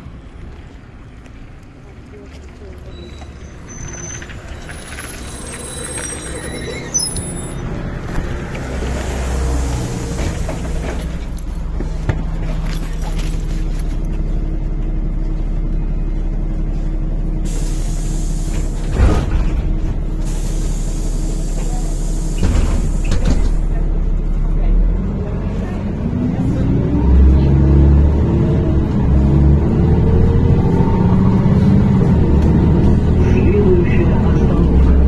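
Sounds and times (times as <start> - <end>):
bus engine drone: 0.0 - 35.0.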